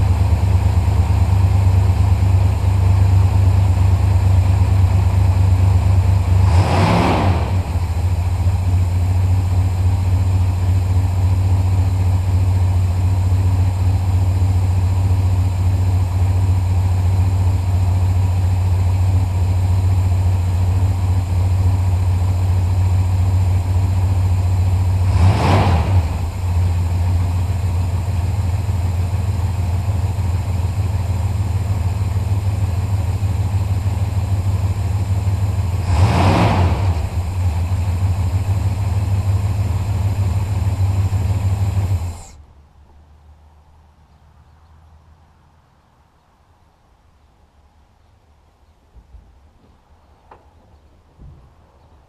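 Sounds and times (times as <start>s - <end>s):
car engine idling and revving: 0.0s - 42.4s.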